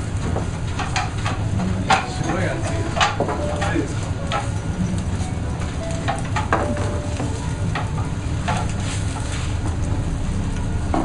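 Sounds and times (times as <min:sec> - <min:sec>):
grill crackles and pops: 0:00.0 - 0:11.0
skewers sizzling on a grill: 0:00.0 - 0:11.0.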